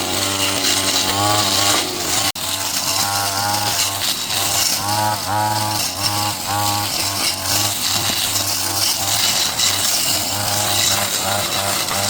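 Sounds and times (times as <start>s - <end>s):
small petrol engine on power tool: 0.0s - 12.0s.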